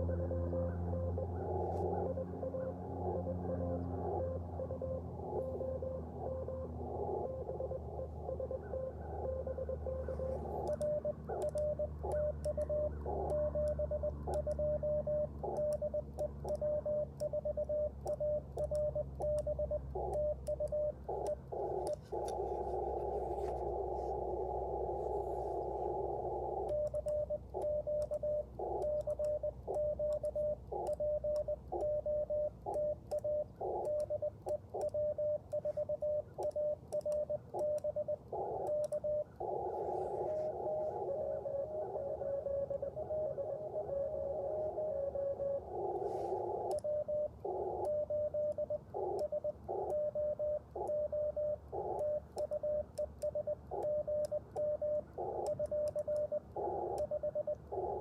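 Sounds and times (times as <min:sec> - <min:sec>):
morse code tone: 0:00.0 - 0:58.0.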